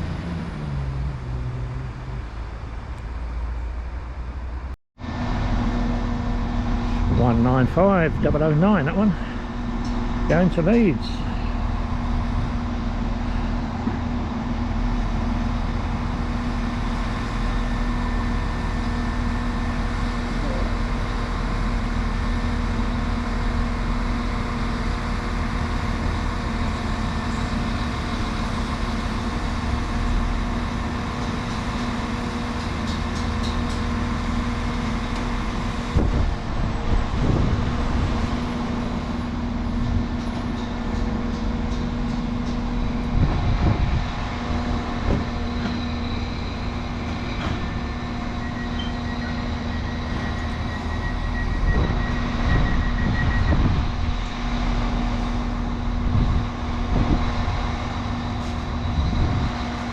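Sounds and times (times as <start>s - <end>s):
diesel train engine humming: 0.0s - 59.9s.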